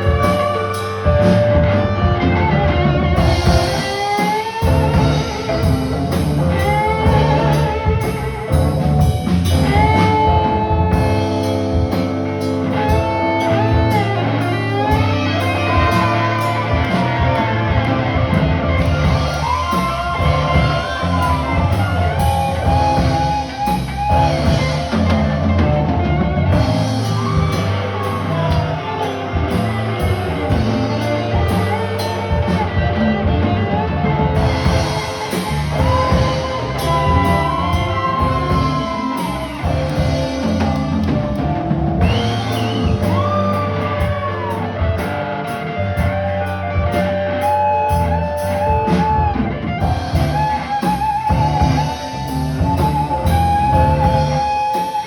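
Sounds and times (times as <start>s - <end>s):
drum kit steady beat: 0.0s - 55.0s
electric guitar sliding melody: 0.0s - 55.0s.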